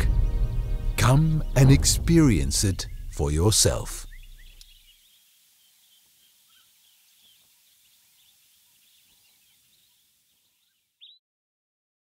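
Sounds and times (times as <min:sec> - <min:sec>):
high chirps of birds or insects: 0:00.0 - 0:11.2.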